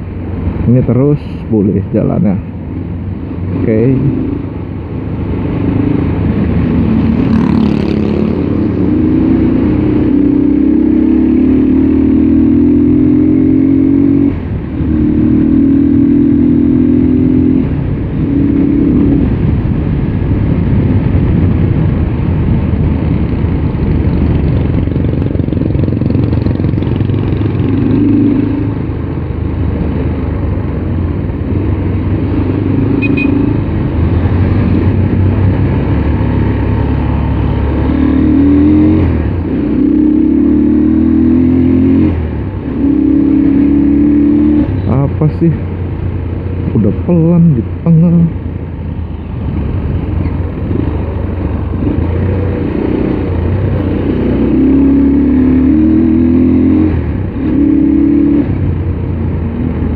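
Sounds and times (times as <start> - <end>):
wind rushing over microphone: 0.0 - 59.9
motorcycle engine revving: 3.6 - 21.7, 22.6 - 48.4, 49.2 - 59.9.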